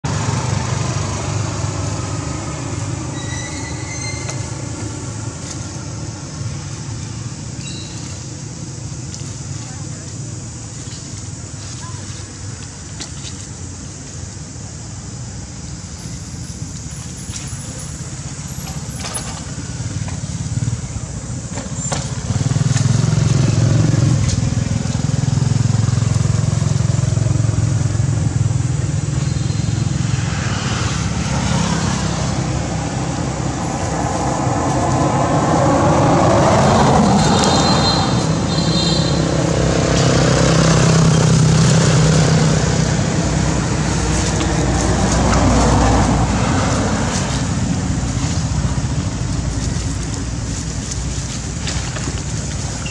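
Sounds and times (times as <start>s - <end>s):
vehicle engines humming: 0.0s - 52.9s
vehicles passing by: 0.0s - 52.9s.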